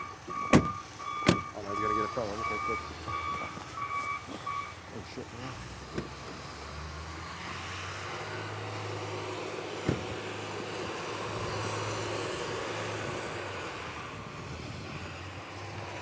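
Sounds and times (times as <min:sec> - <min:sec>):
vehicle engine low hum: 0:00.0 - 0:16.0.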